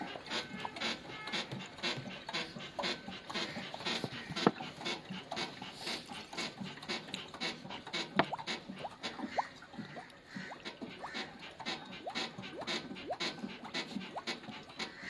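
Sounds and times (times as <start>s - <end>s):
air bubbling gurgles: 0.0s - 15.0s
diesel glugging from plastic bottle: 0.0s - 15.0s.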